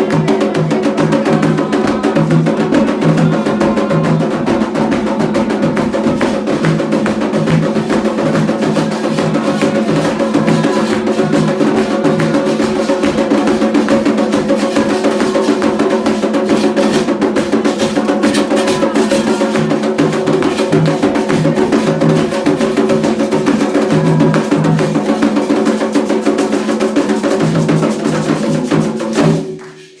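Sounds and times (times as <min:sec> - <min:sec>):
hand drums playing fast rhythm: 0:00.0 - 0:30.0
sharp clicking percussion: 0:00.0 - 0:30.0.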